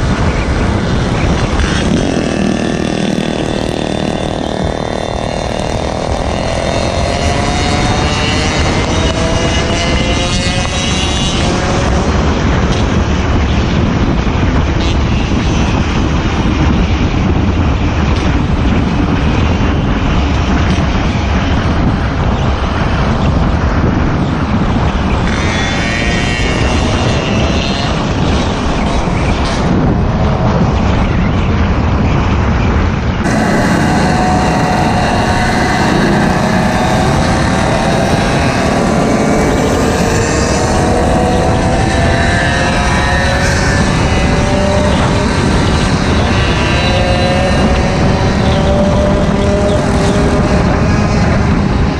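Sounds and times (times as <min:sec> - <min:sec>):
small bike engines running: 0:00.0 - 0:51.9
wind noise on microphone: 0:00.0 - 0:51.9.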